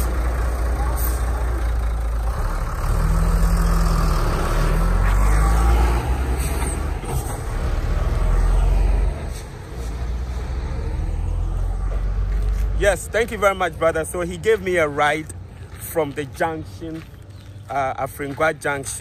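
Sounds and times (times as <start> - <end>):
diesel truck engine rumble: 0.0 - 19.0.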